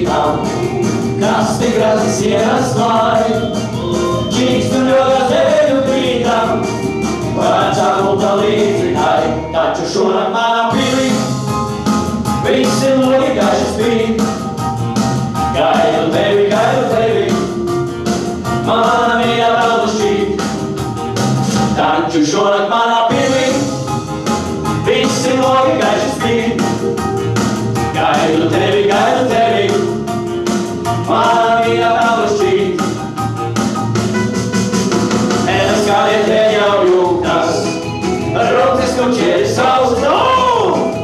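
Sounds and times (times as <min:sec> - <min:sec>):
male vocal group singing in harmony: 0:00.0 - 0:11.6, 0:12.3 - 0:20.7, 0:21.5 - 0:33.6, 0:35.4 - 0:41.0
backing music with steady beat: 0:00.0 - 0:41.0.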